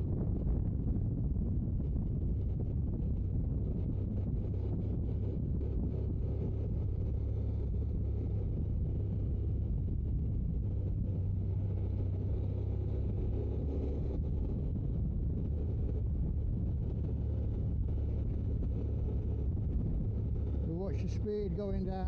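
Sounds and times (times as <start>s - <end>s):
motorcycle engine rumble: 0.0s - 22.0s
wind noise on microphone: 0.0s - 22.0s.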